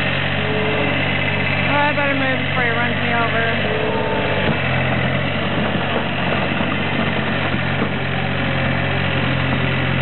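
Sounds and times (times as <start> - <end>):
loader engine running: 0.0 - 10.0.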